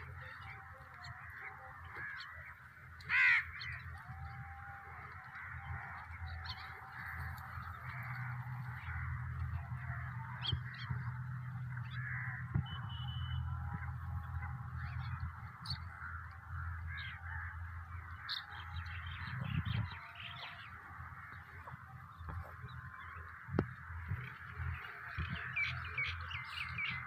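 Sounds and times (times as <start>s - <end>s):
many birds chattering: 0.0s - 27.0s
steady low hum: 0.0s - 27.0s.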